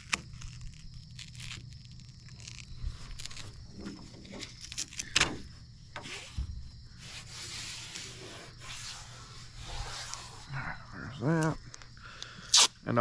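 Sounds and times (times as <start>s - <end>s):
tape rubbing hiss: 0.0s - 10.5s, 12.2s - 12.8s.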